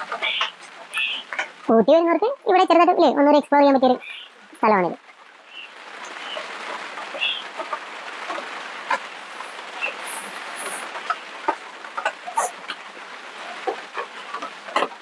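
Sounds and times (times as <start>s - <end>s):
rain on plastic roof: 0.0s - 15.0s.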